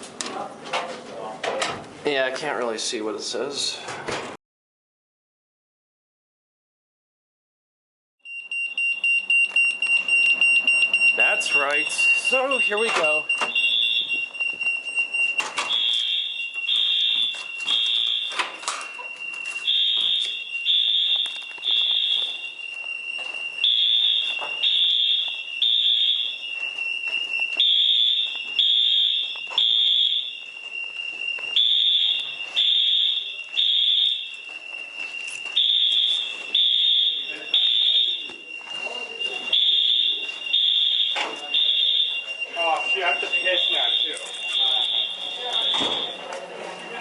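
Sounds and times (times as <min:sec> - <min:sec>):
fire alarm horn blasts: 0:08.2 - 0:46.3.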